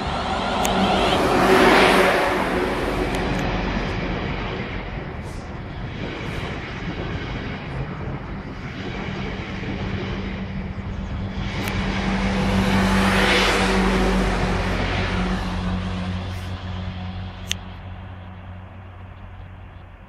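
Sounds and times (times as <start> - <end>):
electric train motor hum: 0.0 - 20.0
train wheel and rail noise: 0.0 - 20.0.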